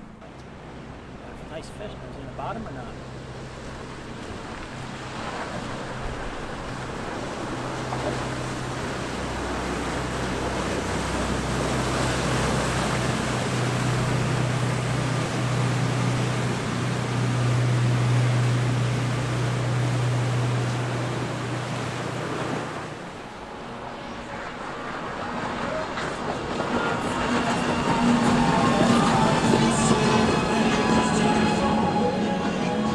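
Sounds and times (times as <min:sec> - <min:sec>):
boat engines droning: 0:00.0 - 0:32.9
rushing wake and surf: 0:00.0 - 0:32.9
wind: 0:00.0 - 0:32.9.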